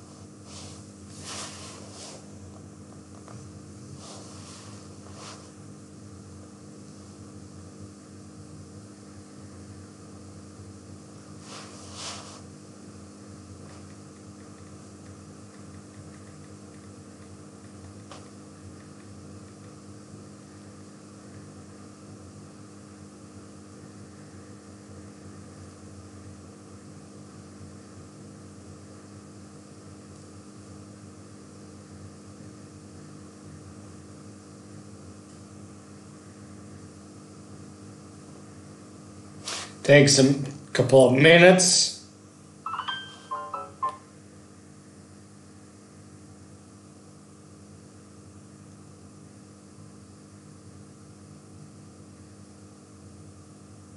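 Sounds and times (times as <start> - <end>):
electrical hum with hiss: 0.0 - 53.9.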